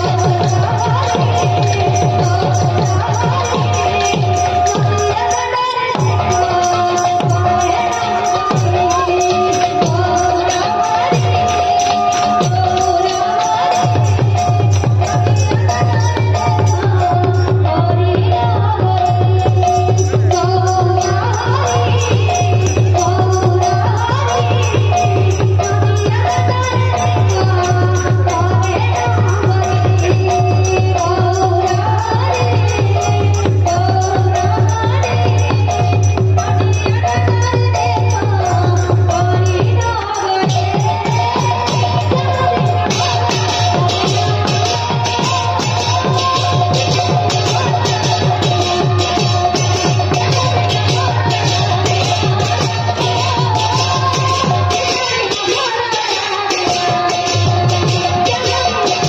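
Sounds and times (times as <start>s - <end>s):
hand drum beating: 0.0s - 59.0s
jingling rattling percussion: 0.0s - 59.0s.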